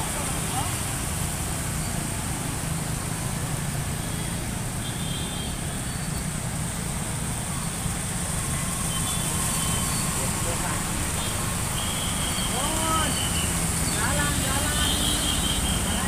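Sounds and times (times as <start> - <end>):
vehicles driving through floodwater: 0.0 - 16.0.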